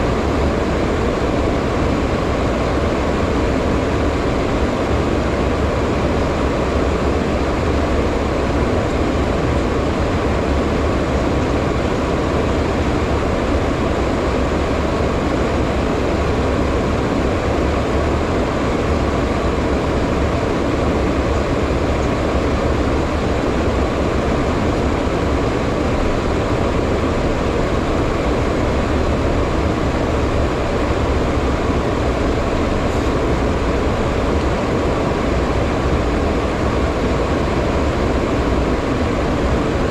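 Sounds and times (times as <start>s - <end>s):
jet engines humming: 0.0s - 39.9s
rushing airflow: 0.0s - 39.9s.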